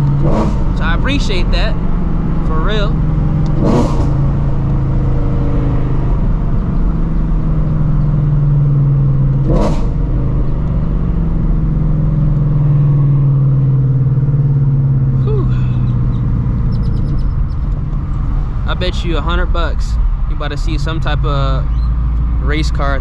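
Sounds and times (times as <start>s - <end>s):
car engine droning while cruising: 0.0s - 23.0s.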